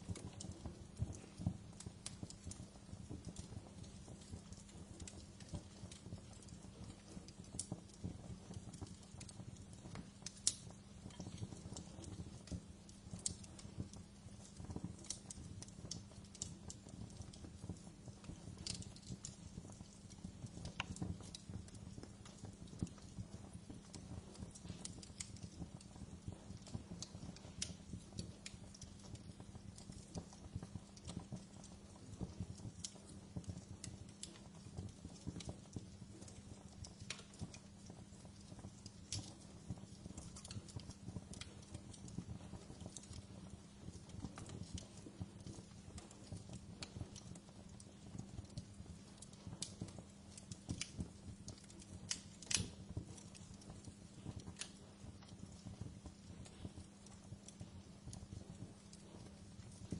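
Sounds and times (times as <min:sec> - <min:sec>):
fire crackling: 0:00.0 - 0:59.9
low rumble of fire: 0:00.0 - 0:59.9.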